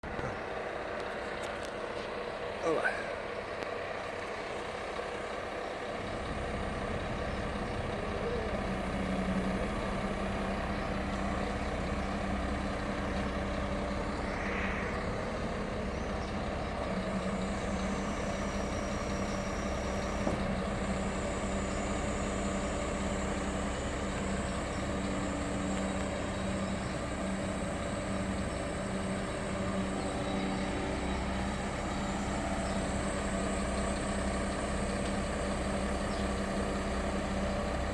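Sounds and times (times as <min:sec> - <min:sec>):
diesel truck engine running: 0:00.0 - 0:37.9.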